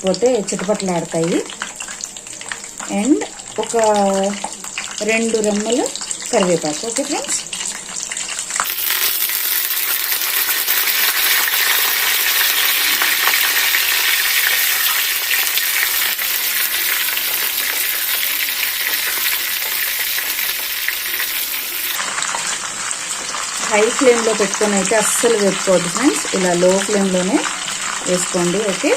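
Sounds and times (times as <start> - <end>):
chillies sizzling in hot oil: 0.0 - 28.9.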